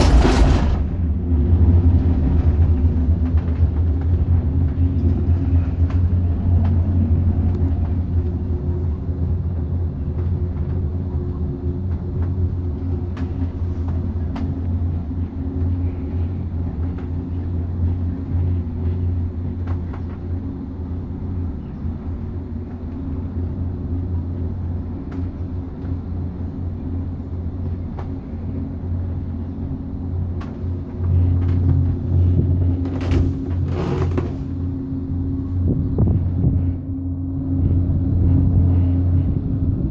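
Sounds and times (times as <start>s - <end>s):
cable car rumble and hum: 0.0s - 39.9s.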